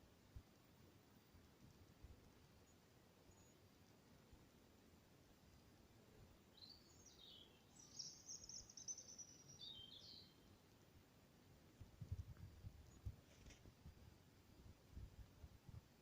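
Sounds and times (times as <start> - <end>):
songbird singing faintly: 0.0 - 16.0.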